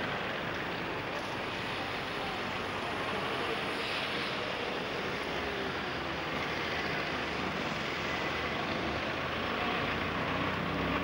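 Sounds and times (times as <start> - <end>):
outdoor background rumble and hiss: 0.0 - 11.0.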